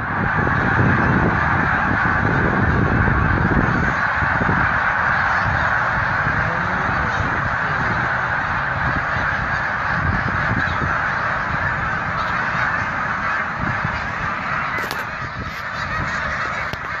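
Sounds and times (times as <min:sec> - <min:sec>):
flock of geese honking: 0:00.0 - 0:17.0.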